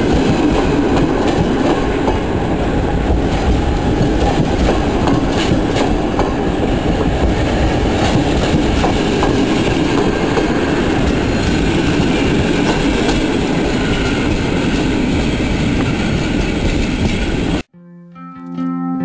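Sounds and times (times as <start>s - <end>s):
train wheels rumbling on rails: 0.0s - 17.7s.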